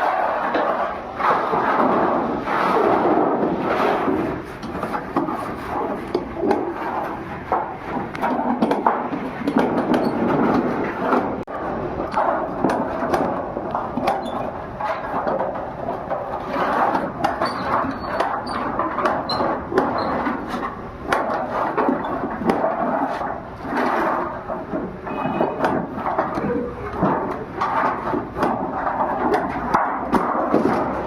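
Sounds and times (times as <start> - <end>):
sheet steel knocks and clanks: 0.0 - 31.0
steady noisy din: 0.0 - 31.0.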